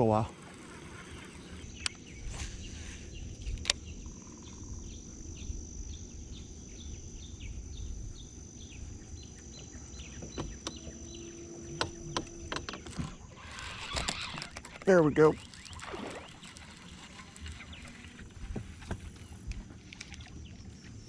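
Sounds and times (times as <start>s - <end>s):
constant high whine: 0.0s - 21.0s.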